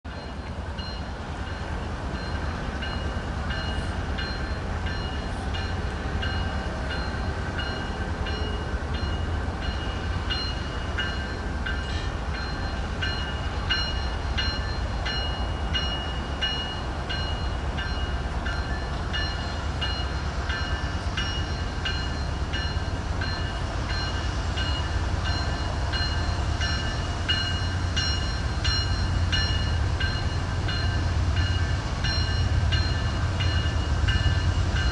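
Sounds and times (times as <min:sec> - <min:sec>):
freight train rumbling: 0:00.0 - 0:34.9.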